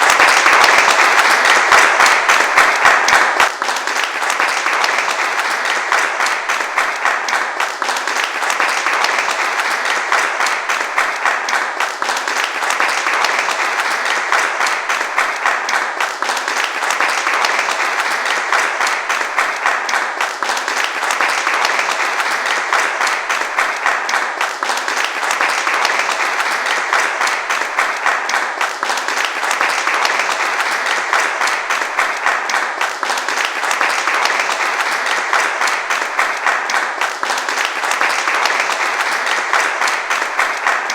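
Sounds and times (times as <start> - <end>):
crowd applauding: 0.0 - 40.9.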